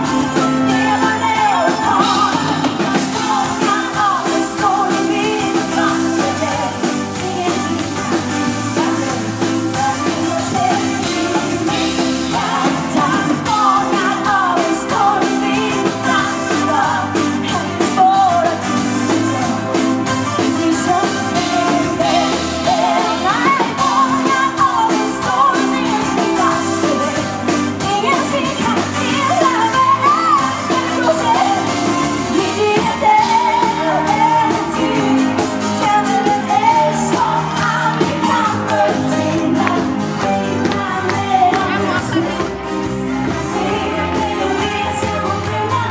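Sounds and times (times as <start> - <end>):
backing singers: 0.0 - 45.9
live pop band: 0.0 - 45.9
woman singing lead: 0.0 - 45.9.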